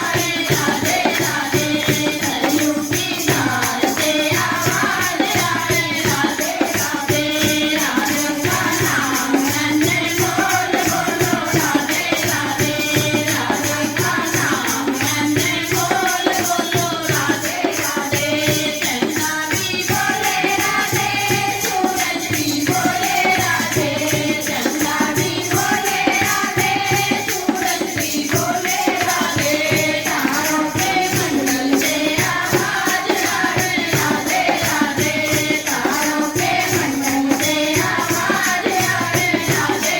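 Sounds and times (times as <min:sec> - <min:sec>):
jingling percussion: 0:00.0 - 0:39.9
voices singing devotional song: 0:00.0 - 0:39.9.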